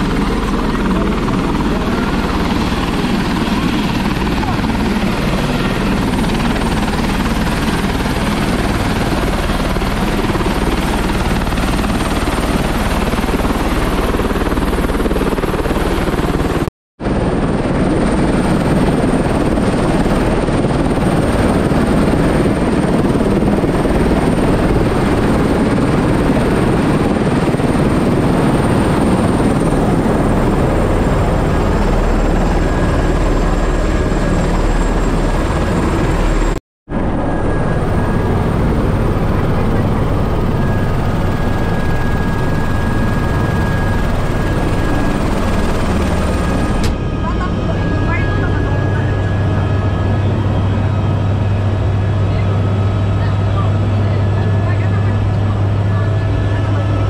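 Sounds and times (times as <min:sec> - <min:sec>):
helicopter rotor and turbine noise: 0:00.0 - 0:57.0.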